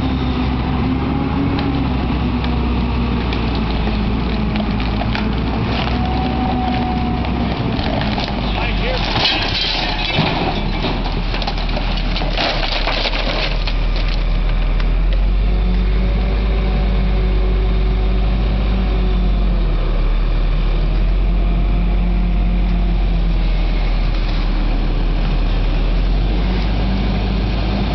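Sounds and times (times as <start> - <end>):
heavy vehicle engine running: 0.0 - 27.9.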